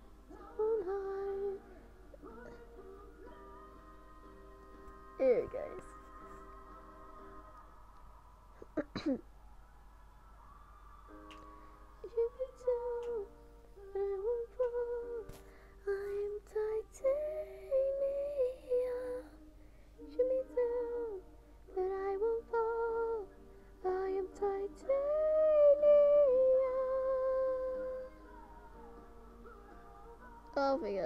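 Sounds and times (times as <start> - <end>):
sung duet with accompaniment: 0.0 - 8.1, 11.2 - 30.8.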